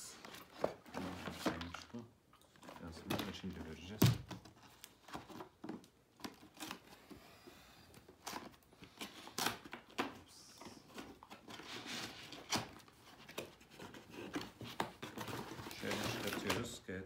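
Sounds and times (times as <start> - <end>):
cardboard and plastic rustling: 0.0 - 17.0.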